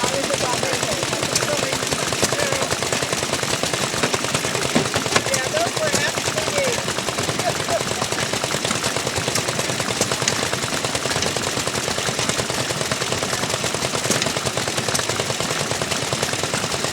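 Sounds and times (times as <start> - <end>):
small gasoline engine popping: 0.0 - 16.9.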